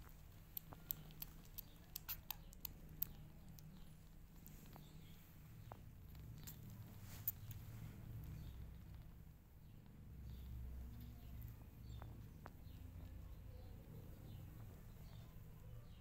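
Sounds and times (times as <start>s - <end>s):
kittens suckling wet clicks: 0.0s - 16.0s
low steady rumble: 0.0s - 16.0s.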